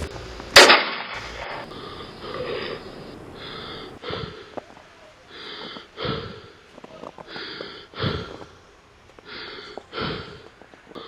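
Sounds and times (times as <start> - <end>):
heavy gasping breaths: 1.4 - 11.0.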